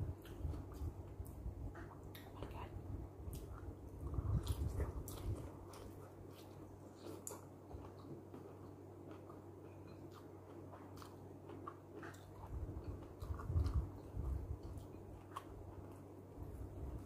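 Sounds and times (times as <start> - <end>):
person chewing food: 3.2 - 17.0.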